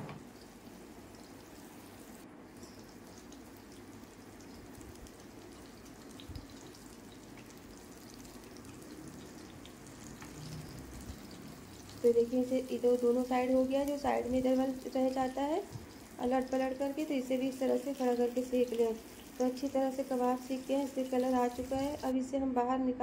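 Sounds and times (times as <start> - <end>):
meat sizzling in oil: 0.3 - 22.1.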